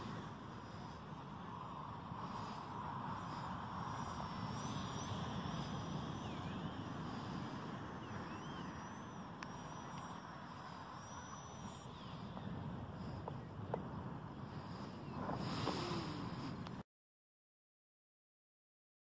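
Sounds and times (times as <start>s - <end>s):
model plane motor whine: 0.0s - 16.7s
steady outdoor hiss: 0.0s - 16.8s
wind: 0.0s - 16.8s.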